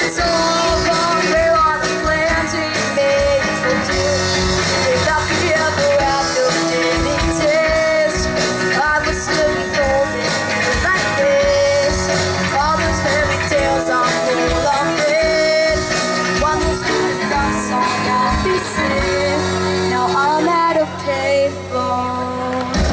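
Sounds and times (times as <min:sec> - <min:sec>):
drums keeping a steady beat: 0:00.0 - 0:19.7, 0:21.6 - 0:22.9
rock band playing: 0:00.0 - 0:22.9.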